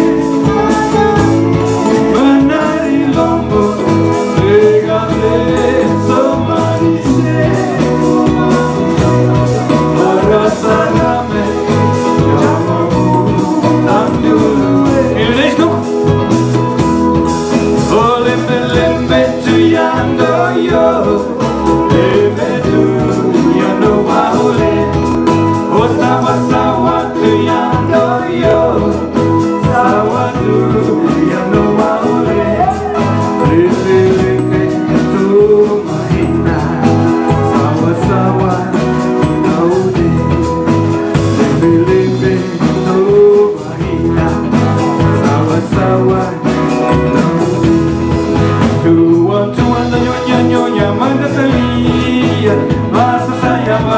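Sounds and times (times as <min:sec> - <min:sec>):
band playing a song: 0:00.0 - 0:53.9
bending lead melody: 0:00.0 - 0:53.9.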